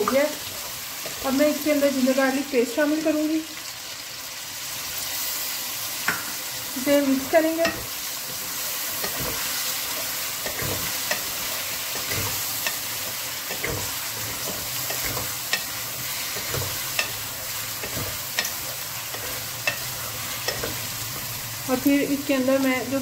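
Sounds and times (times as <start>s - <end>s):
chicken and onions sizzling in oil: 0.0s - 23.0s.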